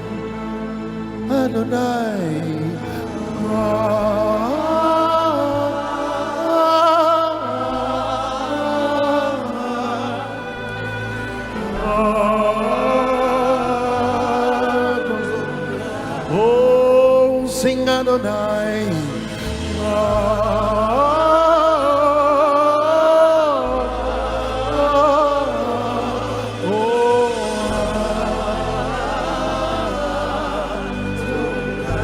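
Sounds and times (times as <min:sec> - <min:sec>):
keyboard and bass chords: 0:00.0 - 0:32.0
person singing with vibrato: 0:00.0 - 0:32.0.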